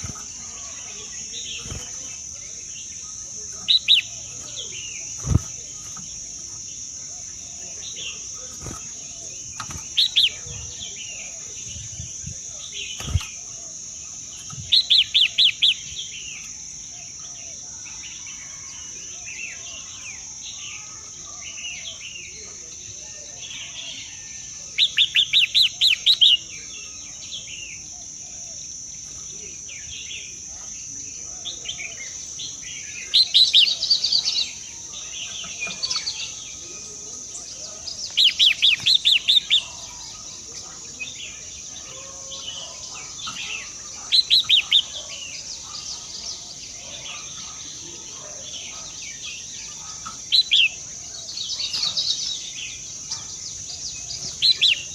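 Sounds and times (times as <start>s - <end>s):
soft bird chirps and calls: 0.0s - 54.9s.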